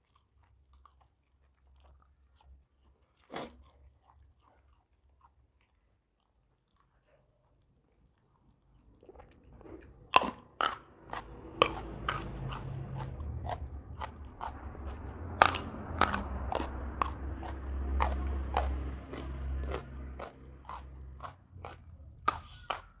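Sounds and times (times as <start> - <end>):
chewing crunchy beans: 0.0 - 23.0.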